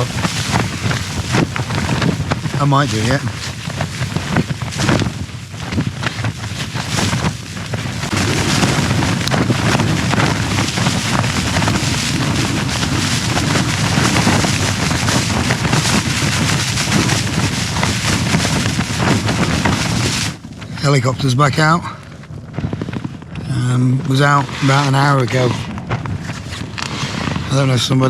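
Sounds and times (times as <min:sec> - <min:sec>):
strong wind gusting: 0:00.0 - 0:28.0
tent flysheet flapping and snapping: 0:00.0 - 0:28.0.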